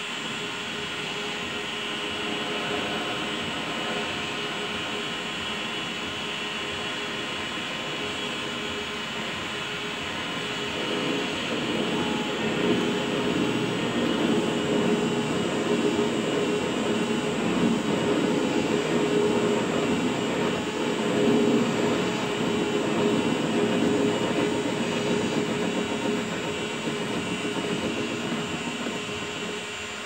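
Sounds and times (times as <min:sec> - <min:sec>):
metal lathe humming and whining: 0:00.0 - 0:30.0.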